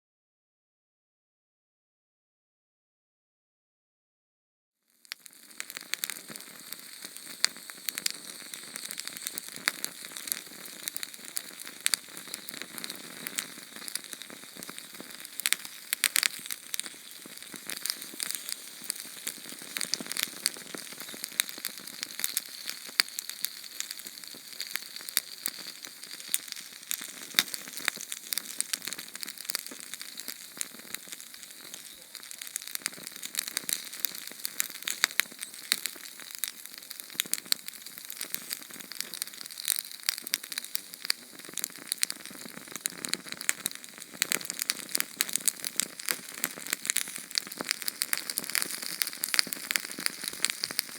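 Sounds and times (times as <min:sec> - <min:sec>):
flame hissing and crackling: 0:05.0 - 0:50.9.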